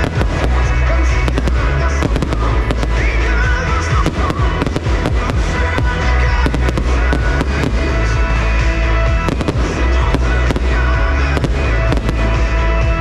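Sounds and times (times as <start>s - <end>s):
fireworks bursting and crackling: 0.0s - 13.0s
pop music with heavy bass: 0.0s - 13.0s.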